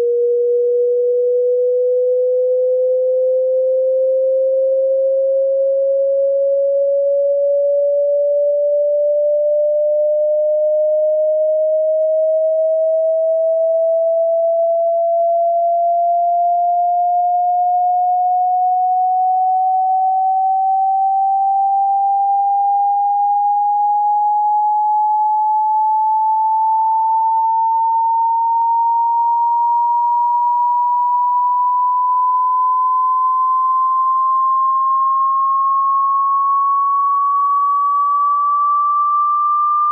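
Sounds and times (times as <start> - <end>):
sine tone sweeping upward: 0.0 - 39.9.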